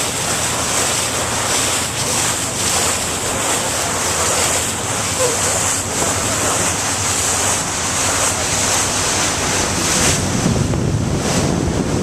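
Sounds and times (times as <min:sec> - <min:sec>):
low engine hum: 0:00.0 - 0:12.0
water rushing past hull: 0:00.0 - 0:12.0
wind buffeting microphone: 0:00.0 - 0:12.0.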